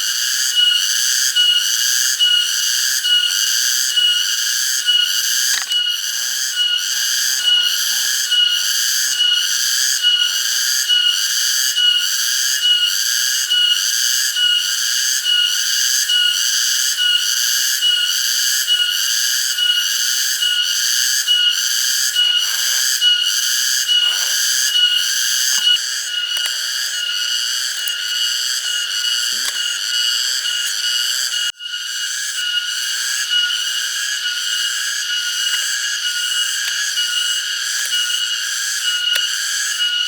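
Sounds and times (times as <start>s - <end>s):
cicadas pulsing chorus: 0.0s - 40.0s.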